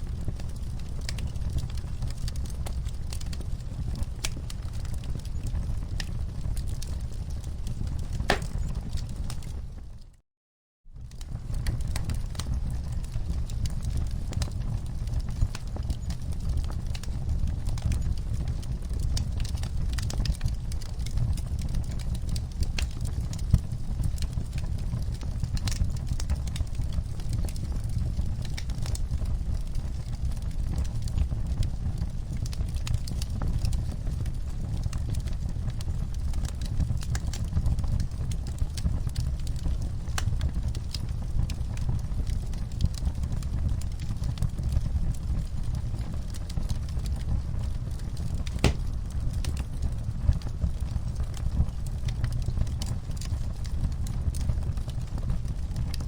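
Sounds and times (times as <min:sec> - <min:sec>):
low rumble of flames: 0:00.0 - 0:10.2, 0:10.9 - 0:56.0
wood fire crackling: 0:00.2 - 0:10.0, 0:11.0 - 0:56.0
fire pops and snaps: 0:04.0 - 0:09.5, 0:11.1 - 0:29.6, 0:30.2 - 0:56.0.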